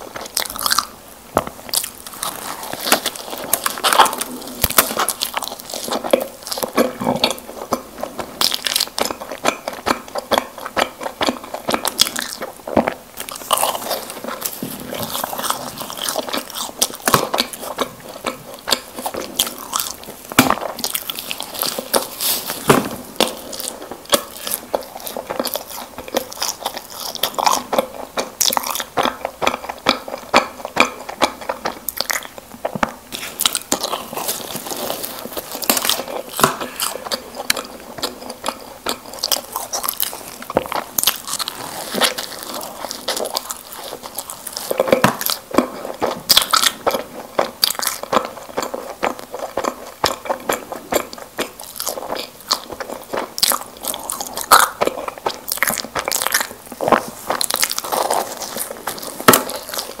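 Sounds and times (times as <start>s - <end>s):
chewing doughnuts: 0.0s - 60.0s
sticky mouth clicks and smacks: 1.4s - 60.0s.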